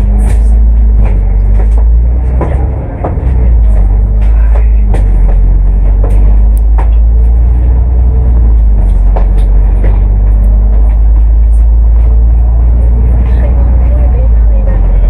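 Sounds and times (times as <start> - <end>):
body rattles and clicks: 0.0 - 15.0
bus diesel engine rumbling: 0.0 - 15.0.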